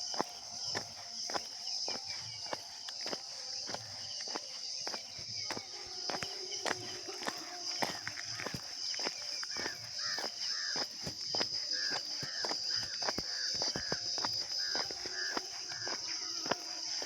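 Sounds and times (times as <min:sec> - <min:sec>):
bird calling: 0:00.0 - 0:17.0
footsteps on road: 0:00.0 - 0:17.0.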